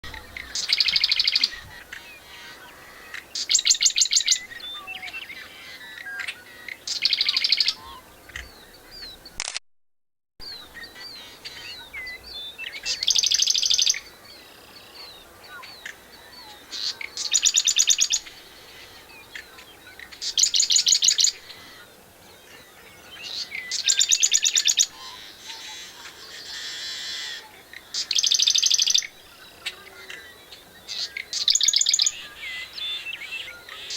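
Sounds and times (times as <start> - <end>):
faint bird chirps: 0.1 - 9.4, 10.4 - 33.9
wren singing fast trill: 0.1 - 9.4, 10.4 - 21.9, 23.2 - 25.8, 26.4 - 33.9.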